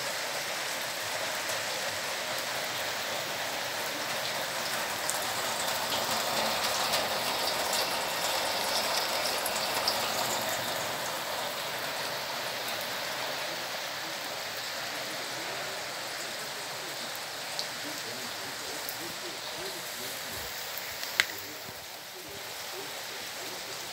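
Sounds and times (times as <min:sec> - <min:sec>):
heavy rain: 0:00.0 - 0:23.9.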